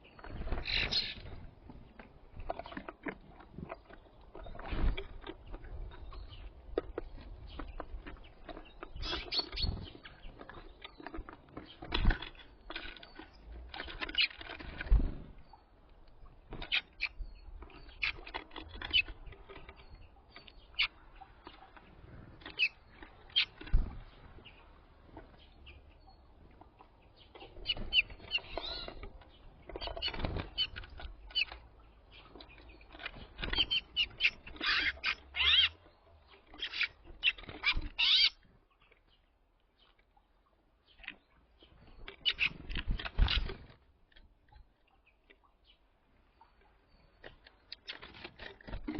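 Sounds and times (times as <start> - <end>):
birds chirping: 0.0 - 48.9
birds pecking and scrabbling: 0.0 - 48.9.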